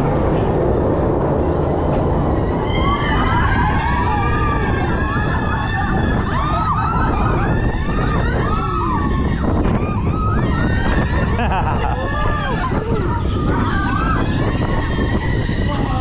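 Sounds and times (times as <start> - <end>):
roller coaster rumbling on track: 0.0 - 16.0
riders screaming and whooping: 1.1 - 16.0.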